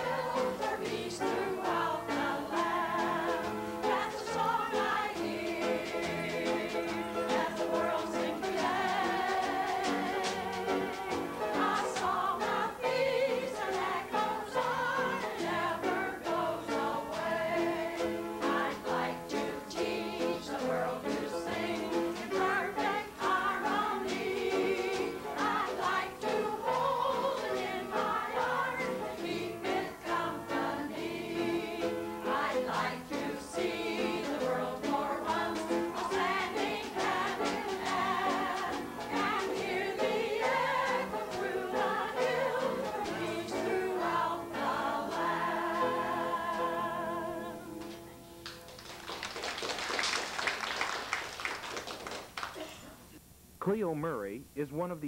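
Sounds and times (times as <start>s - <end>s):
women singing in chorus: 0.0s - 47.8s
piano accompaniment: 0.0s - 49.0s.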